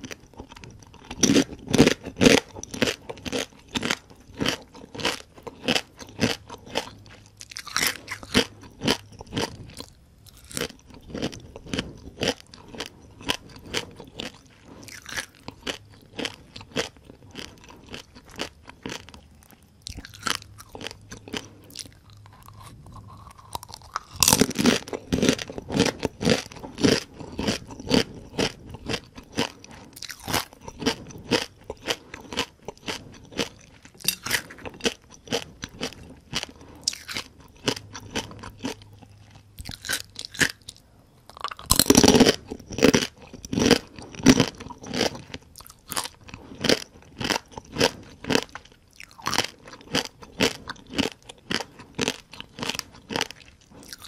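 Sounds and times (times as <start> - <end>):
crunching and chewing fried crabs: 0.0 - 54.0.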